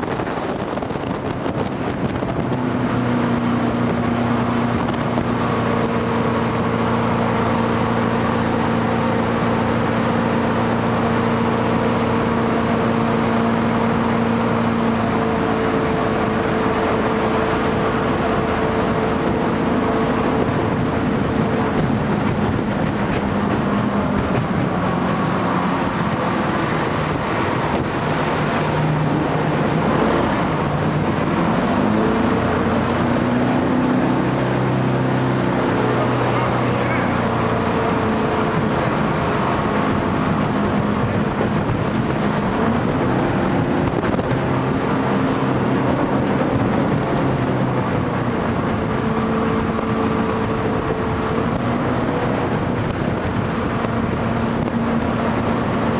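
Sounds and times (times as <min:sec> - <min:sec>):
boat engine droning: 0:00.0 - 0:55.9
rush of wind and water: 0:00.0 - 0:55.9.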